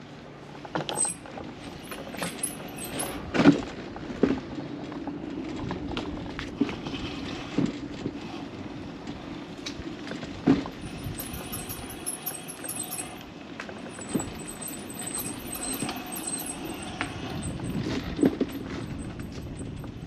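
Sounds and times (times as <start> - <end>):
wheels rumbling on concrete: 0.1 - 20.0.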